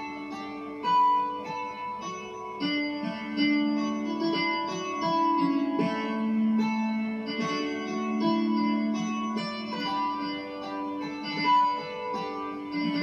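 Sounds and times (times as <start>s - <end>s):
keyboard dulcimer melody: 0.0s - 13.0s.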